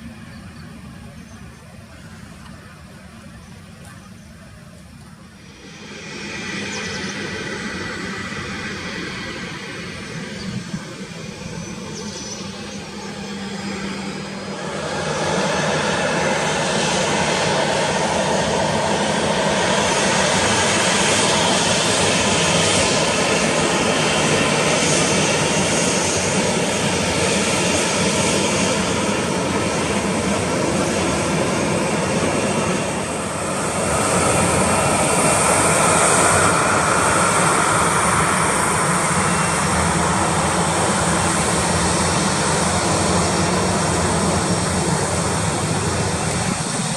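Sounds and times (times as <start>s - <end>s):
airliner engines at takeoff: 0.0s - 46.9s.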